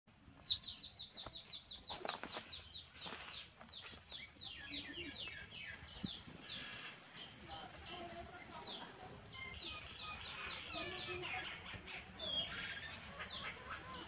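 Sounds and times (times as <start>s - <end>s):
bird chirping: 0.4s - 14.0s.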